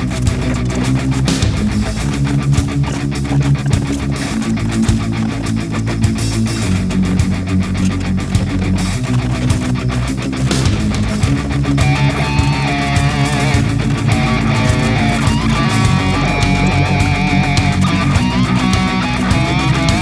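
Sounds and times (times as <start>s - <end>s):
rock music with electric guitar: 0.0s - 20.0s.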